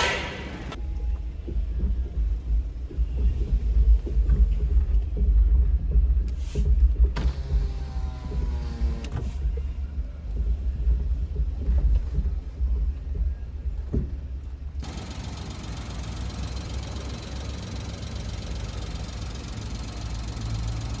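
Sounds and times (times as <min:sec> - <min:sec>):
loose wheel clunking rumble: 0:00.0 - 0:00.8, 0:02.9 - 0:21.0
hissy road noise: 0:00.0 - 0:21.0.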